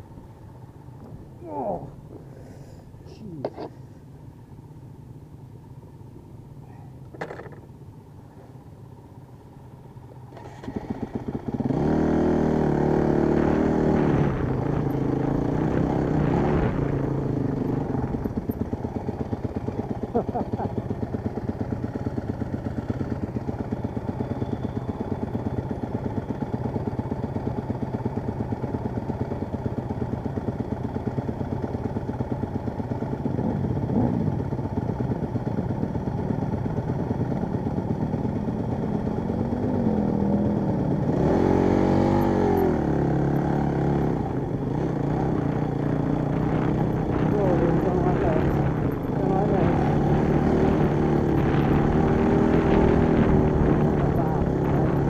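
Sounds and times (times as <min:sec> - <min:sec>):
dirt bike engine revving and idling: 0:09.7 - 0:55.0.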